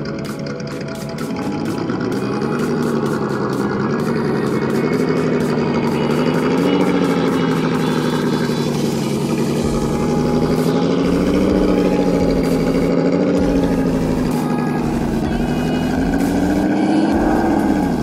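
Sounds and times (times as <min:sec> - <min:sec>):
rc truck motor whining: 0:00.0 - 0:18.0.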